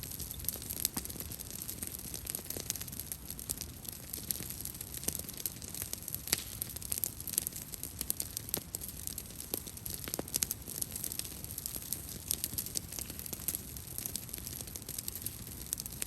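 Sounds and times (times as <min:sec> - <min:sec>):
burning branches crackling: 0:00.0 - 0:16.0
fire popping and snapping: 0:00.0 - 0:16.0.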